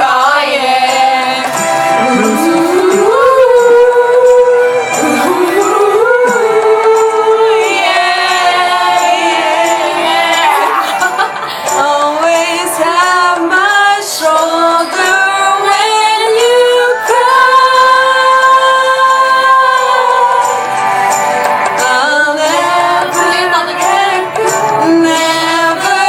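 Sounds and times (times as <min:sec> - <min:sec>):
pop song with wordless vocals: 0:00.0 - 0:26.0.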